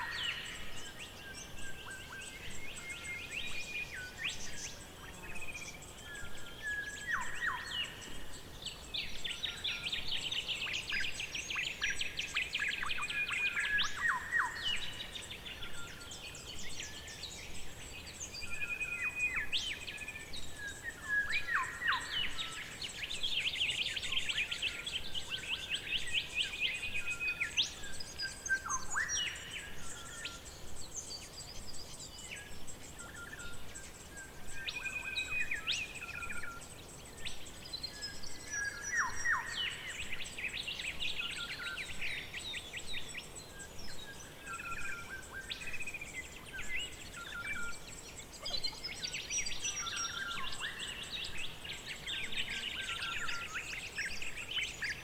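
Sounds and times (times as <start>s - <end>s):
birds chirping and whistling: 0.0s - 55.0s.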